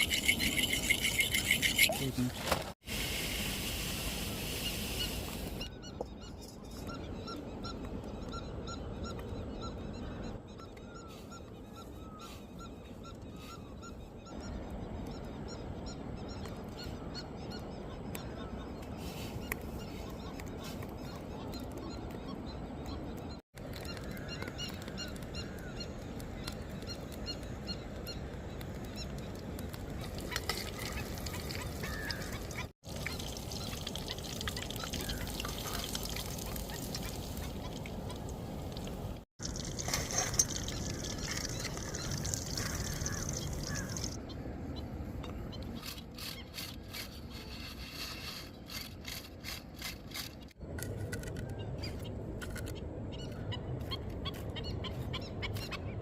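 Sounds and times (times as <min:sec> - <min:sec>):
birds calling: 0:00.0 - 0:02.3, 0:04.4 - 0:50.6, 0:51.5 - 0:56.0
outdoor background noise: 0:00.0 - 0:56.0.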